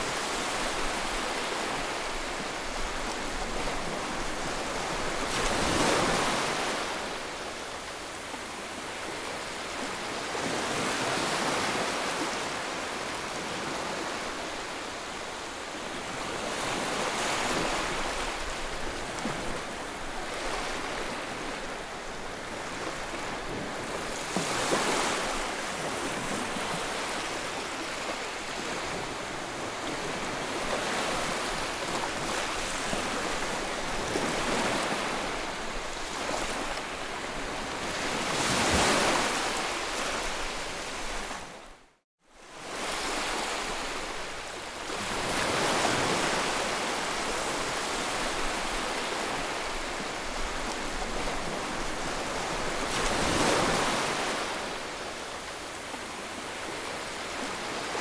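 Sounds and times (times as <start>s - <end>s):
ocean waves breaking: 0.0s - 7.9s, 15.8s - 41.6s, 44.9s - 58.0s.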